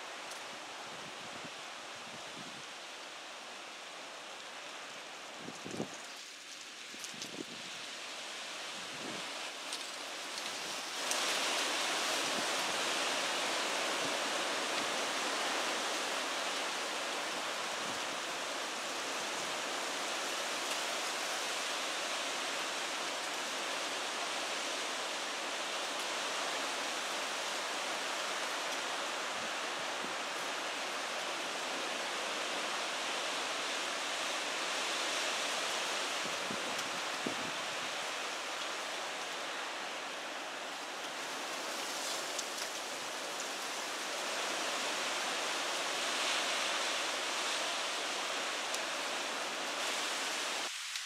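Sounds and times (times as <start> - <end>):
rain falling: 3.8 - 51.0.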